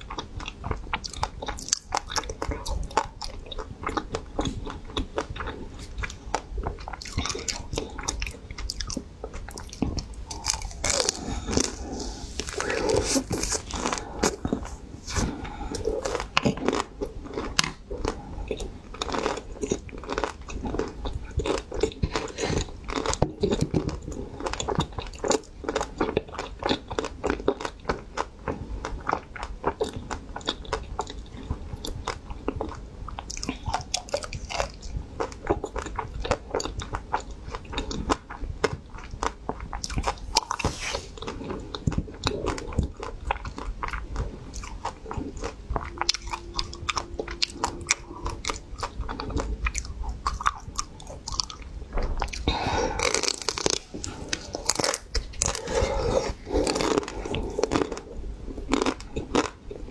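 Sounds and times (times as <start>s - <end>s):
chewing frozen ice cream: 0.0s - 59.9s.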